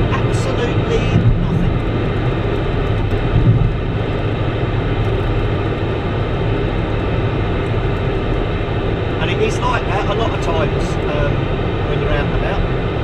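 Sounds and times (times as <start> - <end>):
car interior road and engine noise: 0.0 - 13.0.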